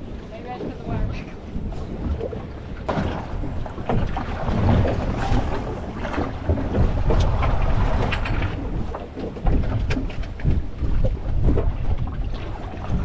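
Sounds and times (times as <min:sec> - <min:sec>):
wind buffeting microphone: 0:00.0 - 0:13.0
splashes: 0:01.8 - 0:13.0.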